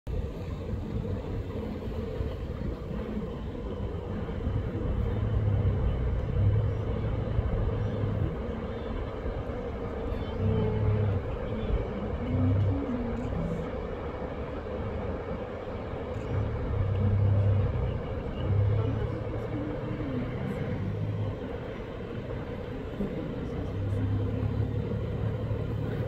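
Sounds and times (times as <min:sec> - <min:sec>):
herd crossing water rumble: 0:00.1 - 0:26.0.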